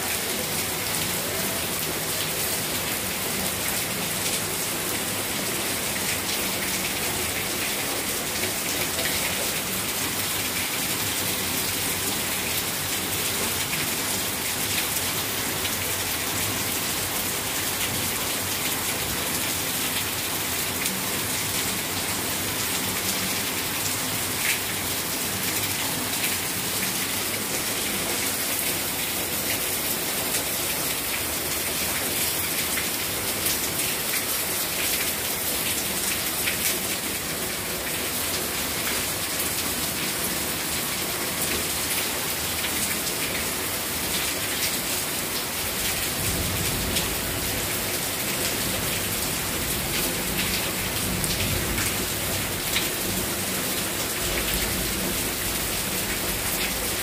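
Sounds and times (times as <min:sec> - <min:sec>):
heavy rain splashing: 0:00.0 - 0:57.0.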